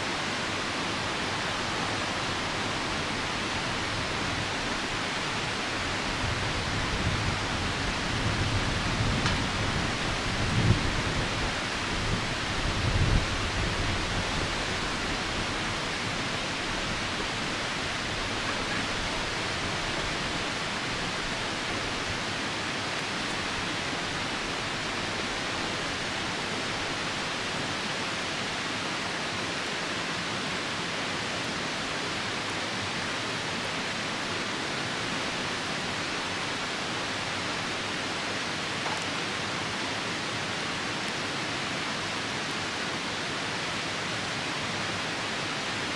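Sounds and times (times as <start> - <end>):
falling rain: 0.0 - 45.9
river rushing: 0.0 - 45.9.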